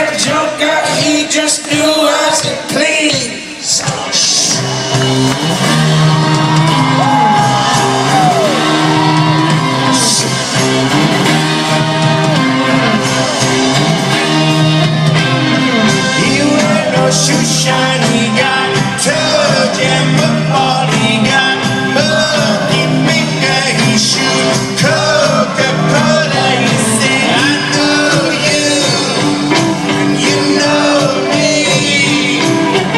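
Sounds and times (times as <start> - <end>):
live rock band playing: 0.0 - 32.9
person singing: 0.0 - 32.9.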